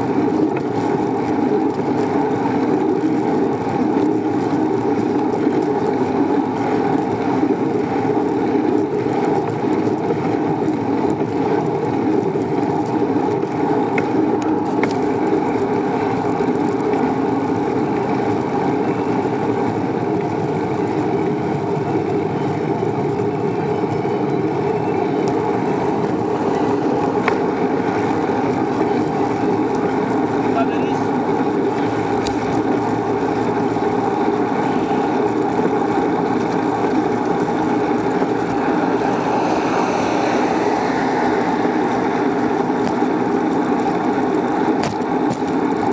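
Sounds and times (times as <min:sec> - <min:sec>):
wind and road noise: 0:00.0 - 0:45.9.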